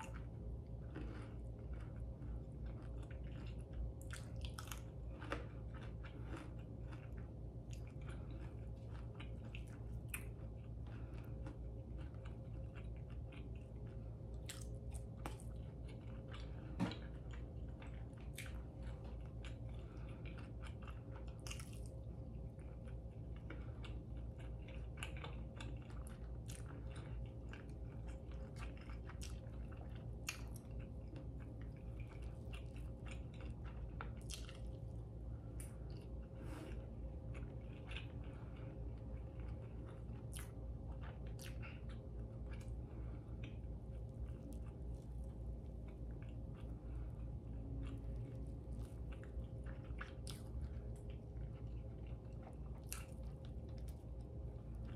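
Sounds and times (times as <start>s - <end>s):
mouth chewing food: 0.0s - 54.9s
steady low hum: 0.0s - 54.9s.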